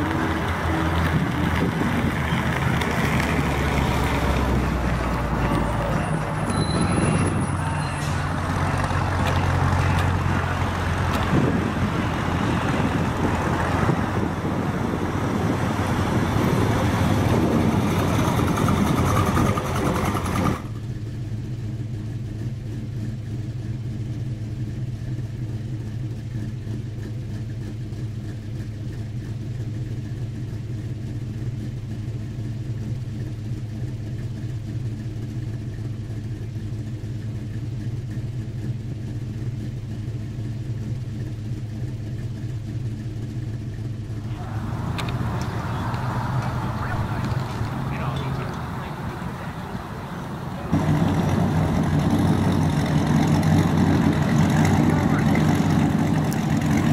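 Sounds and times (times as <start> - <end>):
car engine driving loudly: 0.0 - 56.9
engine idling: 0.0 - 56.9.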